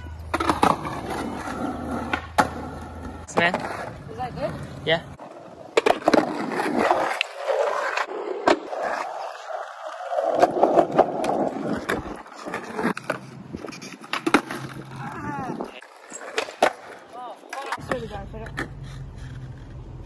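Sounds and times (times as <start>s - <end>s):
skateboard clacking on ground: 0.0s - 20.0s
skateboard rolling on asphalt: 0.0s - 20.0s.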